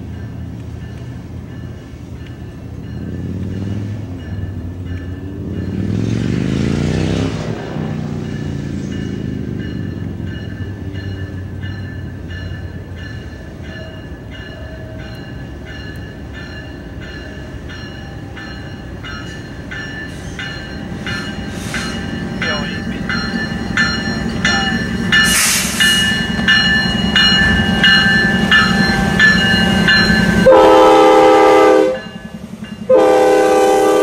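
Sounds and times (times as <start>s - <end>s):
crossing bell ringing: 0.0s - 34.0s
freight train rumbling: 0.0s - 34.0s
loud rushing of passing train: 0.0s - 34.0s.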